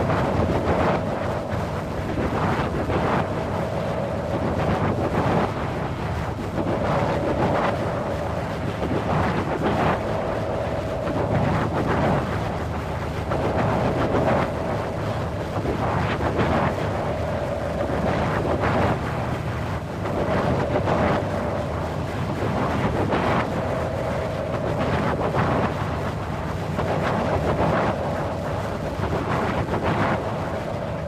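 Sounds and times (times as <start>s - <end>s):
wind rushing in gusts: 0.0s - 31.0s.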